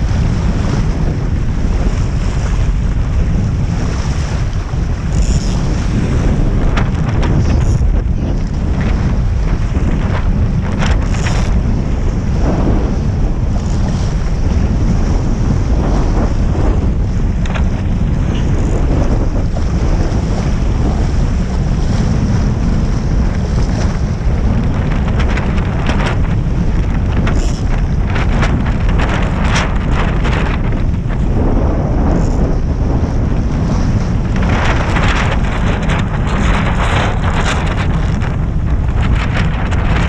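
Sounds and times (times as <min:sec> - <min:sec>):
water slapping against hull: 0:00.0 - 0:40.0
wind buffeting microphone: 0:00.0 - 0:40.0.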